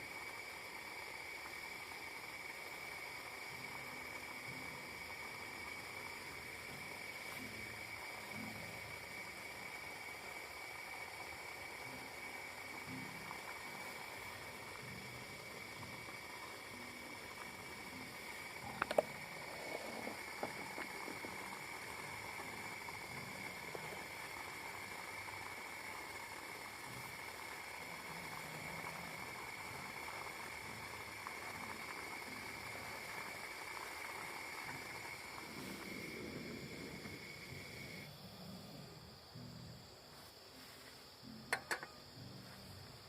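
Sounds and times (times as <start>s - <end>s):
night insects droning: 0.0s - 43.0s.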